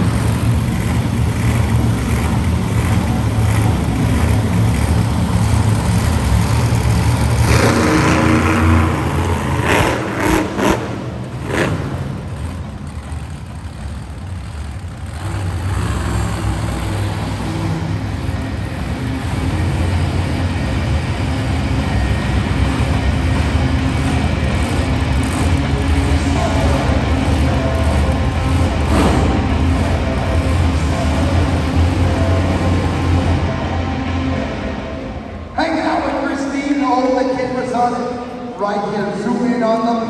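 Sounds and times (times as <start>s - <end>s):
monster truck engines revving: 0.0s - 40.0s.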